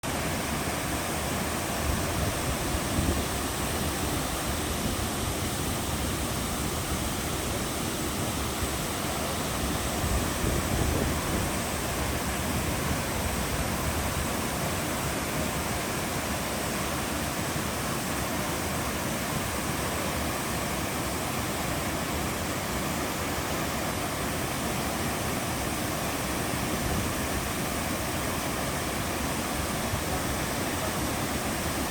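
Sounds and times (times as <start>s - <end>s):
waterfall roaring into pool: 0.0s - 31.9s.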